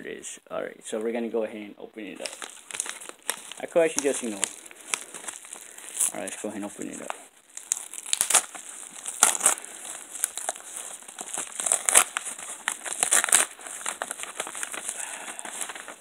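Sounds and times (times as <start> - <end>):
padded envelope crinkling: 2.2 - 16.0.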